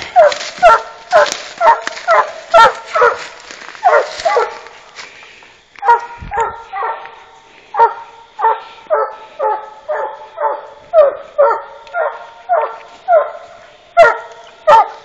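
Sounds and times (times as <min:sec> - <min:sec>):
dog barking: 0:00.1 - 0:04.7, 0:05.8 - 0:07.1, 0:07.8 - 0:15.0.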